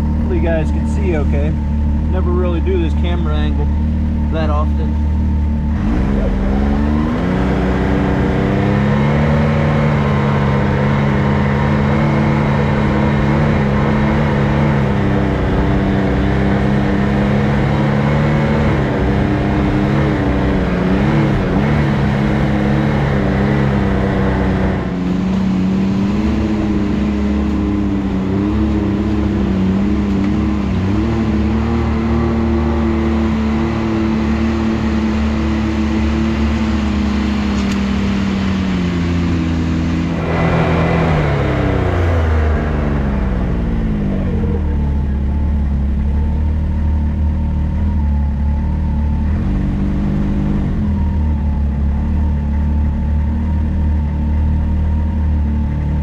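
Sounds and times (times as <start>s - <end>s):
turbo engine pulling away: 0.0s - 56.0s.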